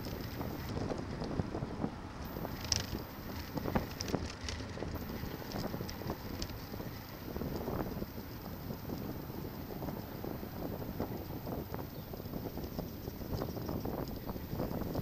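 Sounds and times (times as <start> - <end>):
bicycle clicks and rattles: 0.0 - 15.0
tyres rumbling on road: 0.0 - 15.0
wind buffeting microphone: 0.0 - 15.0.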